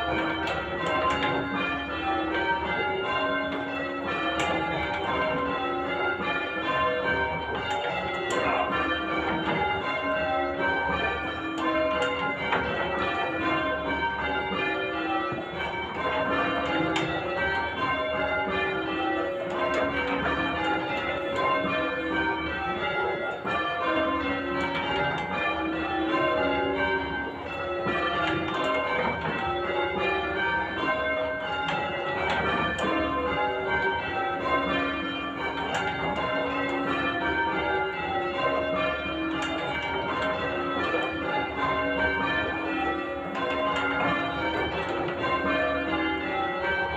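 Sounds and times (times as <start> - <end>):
church bells change ringing: 0.0 - 46.9.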